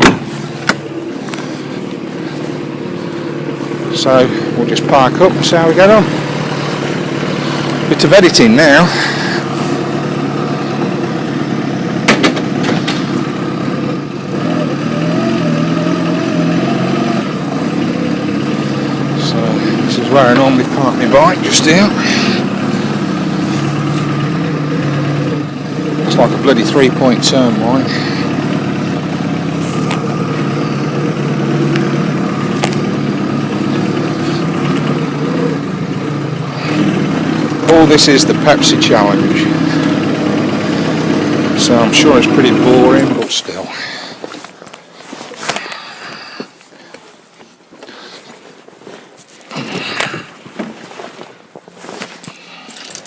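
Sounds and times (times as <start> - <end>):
motorcycle engine idling: 0.0 - 47.1.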